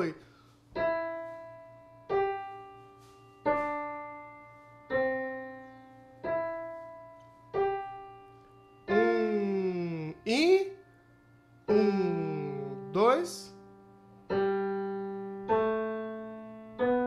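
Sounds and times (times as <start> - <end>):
piano single notes: 0.7 - 17.0.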